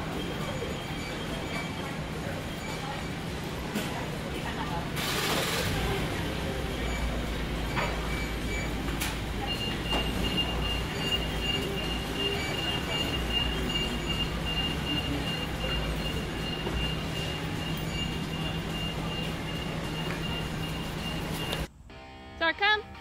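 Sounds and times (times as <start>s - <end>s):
store background rumble: 0.0s - 22.8s.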